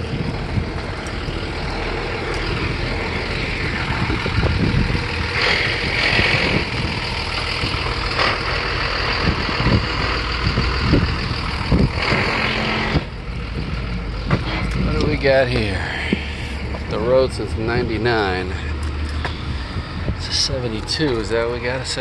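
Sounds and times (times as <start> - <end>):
vehicles and machinery rumbling: 0.0 - 22.0.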